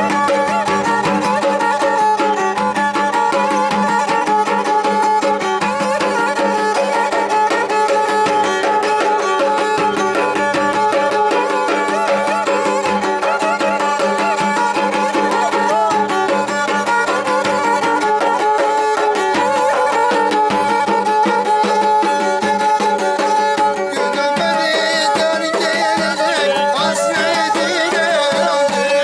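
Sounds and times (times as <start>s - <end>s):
bowed fiddle melody over drone: 0.0s - 28.9s
large drum beaten by hand: 0.0s - 29.0s.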